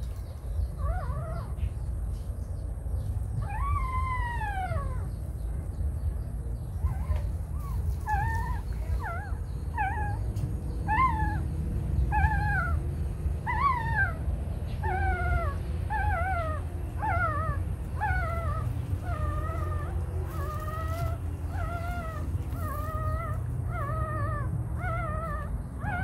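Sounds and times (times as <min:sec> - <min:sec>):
puppy whimpering: 0:00.6 - 0:01.9, 0:03.3 - 0:05.2, 0:06.7 - 0:26.0.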